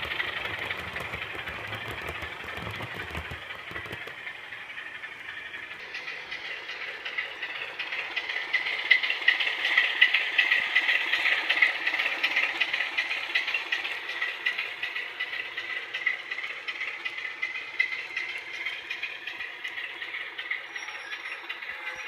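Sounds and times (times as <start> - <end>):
diesel engine sound from small speaker: 0.0 - 22.0
fast rattling clatter: 0.0 - 22.0.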